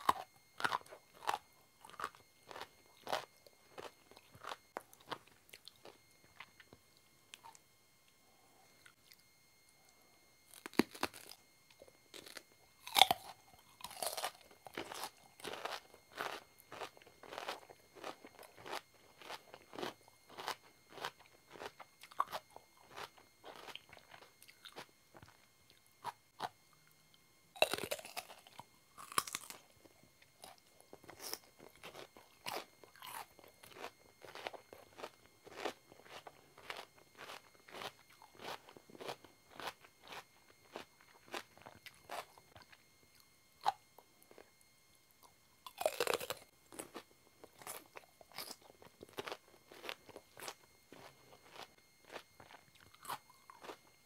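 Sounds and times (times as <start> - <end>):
crisp crunching bites: 0.0 - 6.7, 10.5 - 11.4, 12.1 - 25.4, 27.6 - 29.7, 30.4 - 42.8, 45.7 - 53.8
wet crunching chews: 0.0 - 27.0, 27.6 - 44.6, 45.2 - 54.0.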